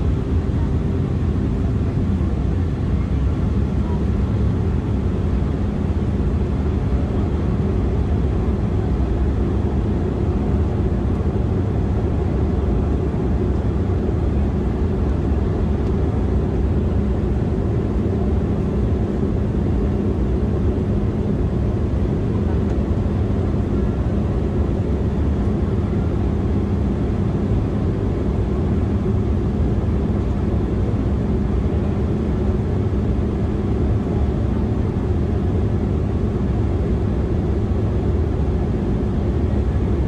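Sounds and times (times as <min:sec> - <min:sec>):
jet cabin rumble: 0:00.0 - 0:40.0.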